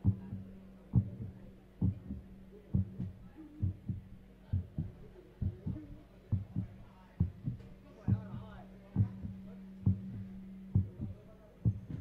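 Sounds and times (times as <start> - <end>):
low drumbeats: 0.0 - 12.0
steady low hum: 0.0 - 12.0.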